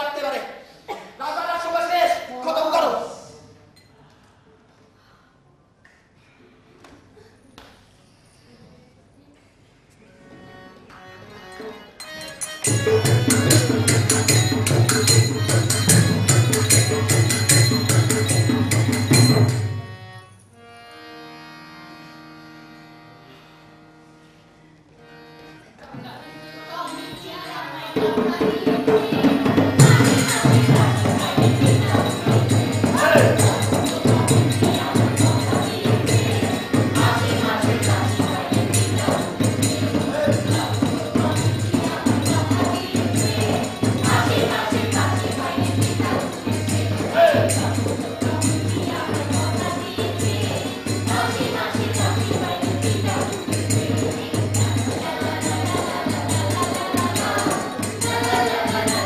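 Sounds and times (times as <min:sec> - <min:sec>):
harmonium chord: 0:10.2 - 0:59.0.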